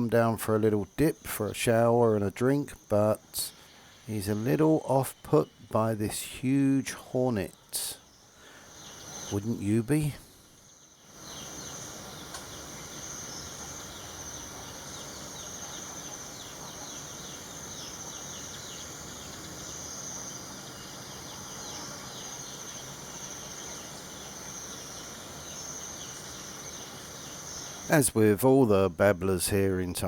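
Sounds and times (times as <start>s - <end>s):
insects droning: 0.0s - 30.0s
small birds chirping: 0.0s - 30.0s.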